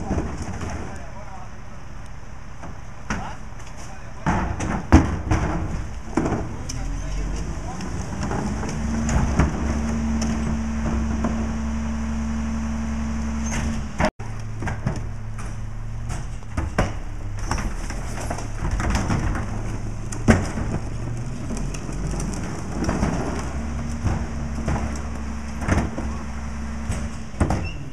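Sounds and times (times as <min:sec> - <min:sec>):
plastic carts clattering against truck: 0:00.0 - 0:01.2, 0:02.6 - 0:11.5, 0:14.6 - 0:27.9
garbage truck diesel engine running: 0:00.0 - 0:27.9.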